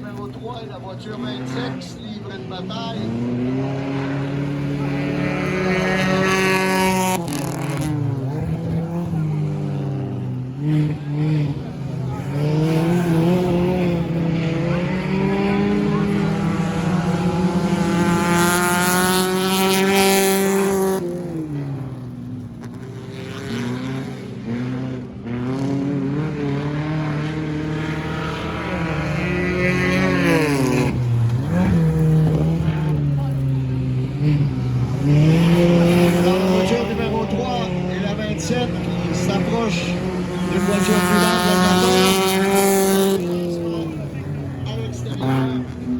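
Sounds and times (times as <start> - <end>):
car engine passing by: 0.0 - 45.9
race car engines running hard: 0.0 - 45.9.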